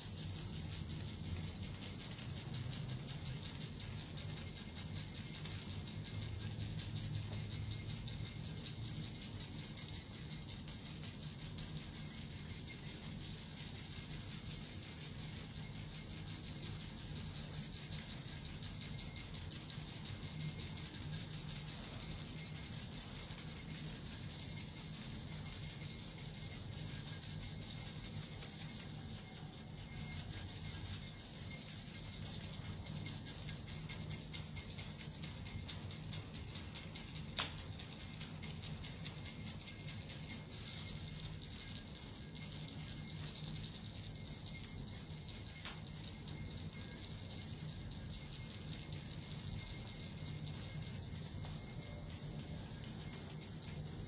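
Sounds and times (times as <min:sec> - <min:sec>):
small bells jingling: 0:00.0 - 0:54.0.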